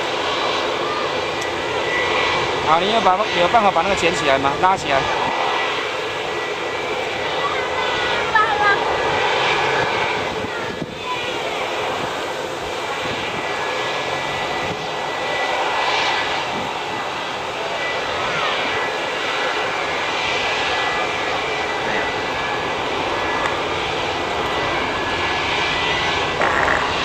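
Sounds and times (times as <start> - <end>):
airliner engines drone: 0.0 - 27.0
high steady whine: 0.0 - 27.0.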